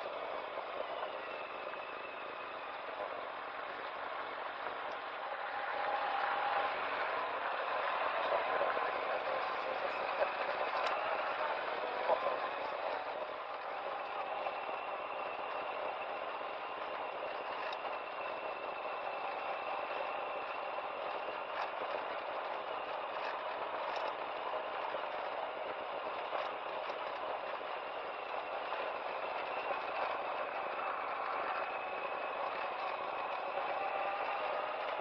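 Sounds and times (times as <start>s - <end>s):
tyre noise on rough road: 0.0s - 35.0s.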